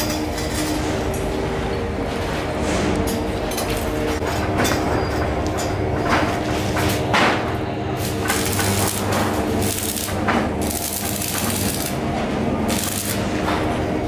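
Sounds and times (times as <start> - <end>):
metalworking machinery humming: 0.0 - 14.0.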